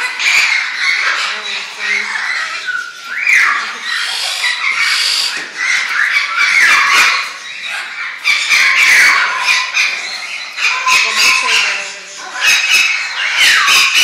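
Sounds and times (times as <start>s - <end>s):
caged birds squawking and screeching: 0.0s - 14.0s.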